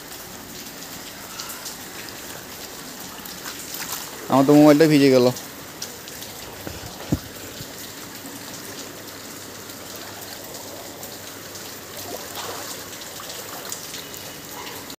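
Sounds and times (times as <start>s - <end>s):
heavy rain: 0.0s - 14.9s
water running over road: 0.0s - 14.9s.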